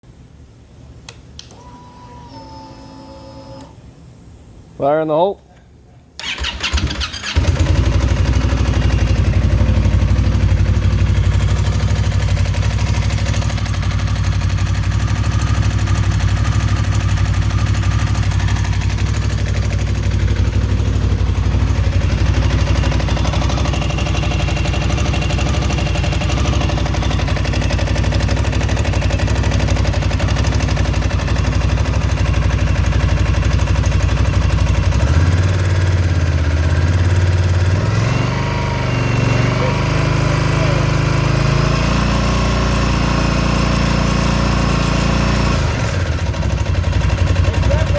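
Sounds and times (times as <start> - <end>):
motorcycle engine idling: 6.3 - 47.9.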